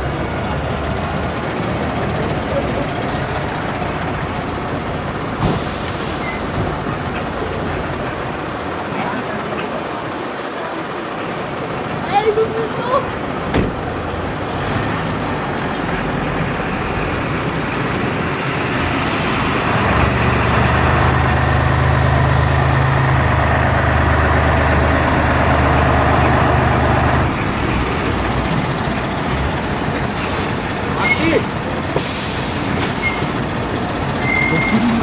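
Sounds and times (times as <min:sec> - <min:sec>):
close diesel engine droning: 0:00.0 - 0:35.0
quieter fire truck engines: 0:00.0 - 0:35.0.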